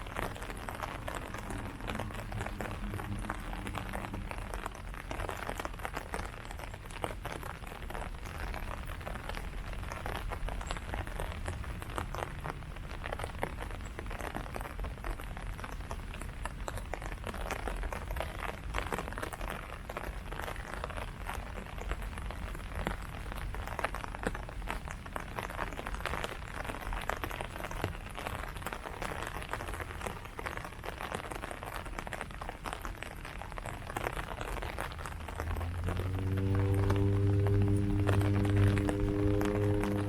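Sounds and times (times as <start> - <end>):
rain falling on leaves: 0.0 - 40.0.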